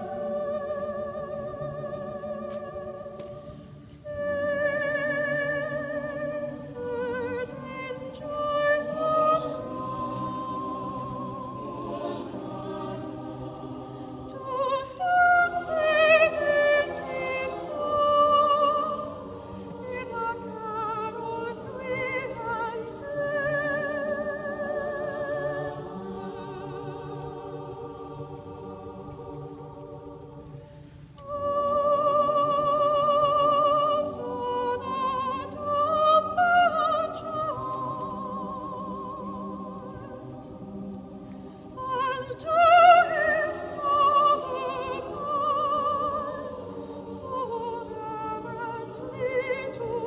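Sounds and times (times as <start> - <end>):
choir sustained chords: 0.0 - 50.0
soprano singing a carol: 0.0 - 50.0.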